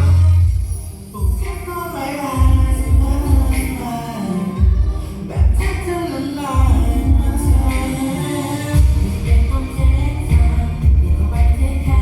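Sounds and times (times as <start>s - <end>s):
heavy bass beat: 0.0s - 4.0s, 4.6s - 6.0s, 6.6s - 12.0s
pop music over sound system: 0.0s - 12.0s.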